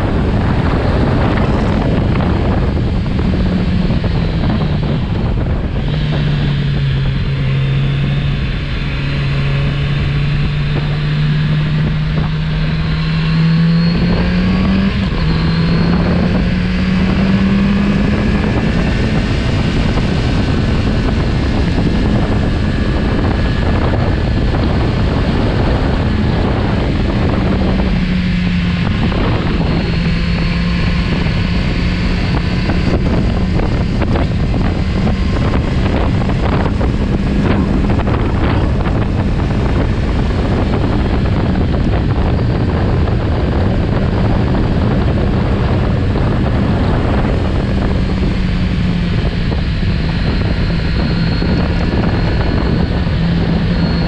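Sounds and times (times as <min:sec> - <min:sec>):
motorcycle engine running: 0:00.0 - 0:54.0
wind rushing across microphone: 0:00.0 - 0:54.0.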